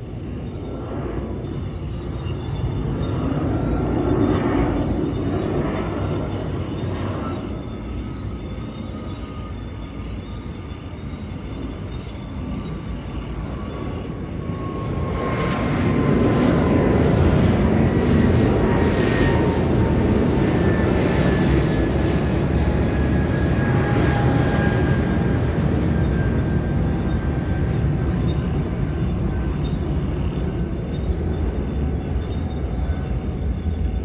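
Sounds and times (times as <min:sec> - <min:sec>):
jet airliner engines whining: 0:00.0 - 0:34.0.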